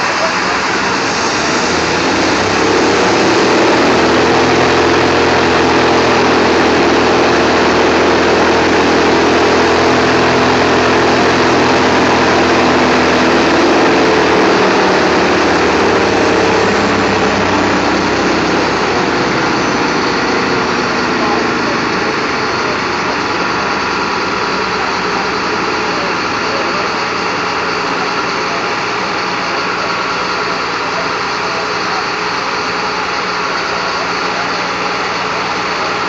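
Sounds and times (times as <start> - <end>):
sawmill engine running: 0.0 - 36.0.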